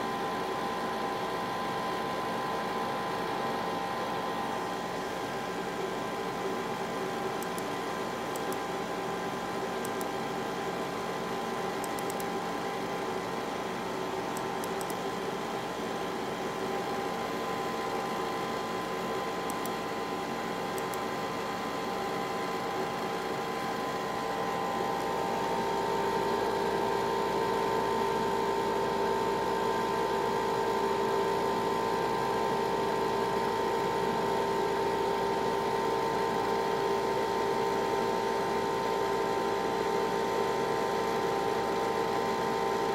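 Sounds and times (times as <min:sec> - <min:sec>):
cooling fan whirring hum: 0:00.0 - 0:42.9.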